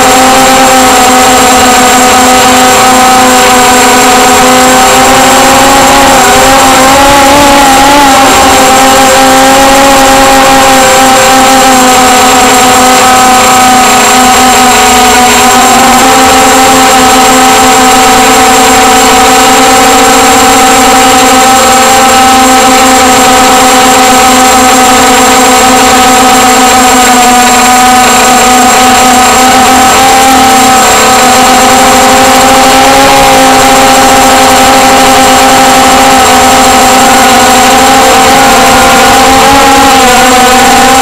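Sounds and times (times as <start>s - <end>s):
drone propellers whining: 0.0s - 41.0s.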